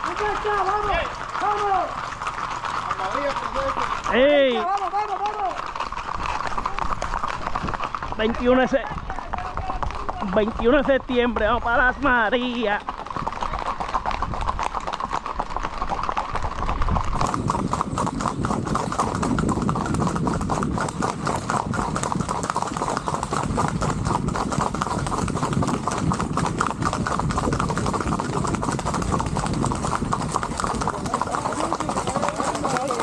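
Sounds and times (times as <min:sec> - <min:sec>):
horse hooves on paved road: 0:00.0 - 0:33.0.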